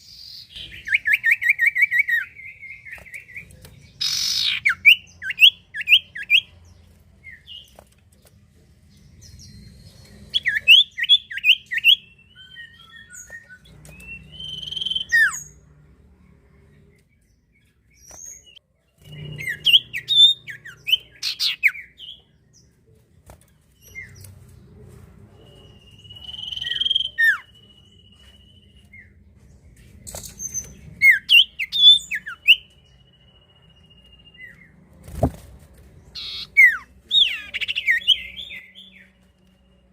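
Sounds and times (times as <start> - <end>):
bird singing high chirps: 0.0 - 7.8, 8.9 - 22.8, 25.2 - 34.9, 36.0 - 39.9.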